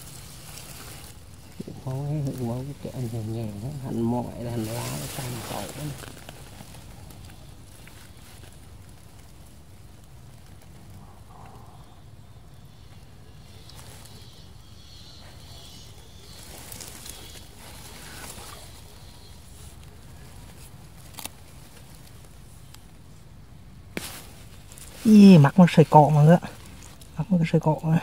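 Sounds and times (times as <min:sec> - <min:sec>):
rustling handling noise: 0:00.0 - 0:11.8, 0:15.1 - 0:27.6.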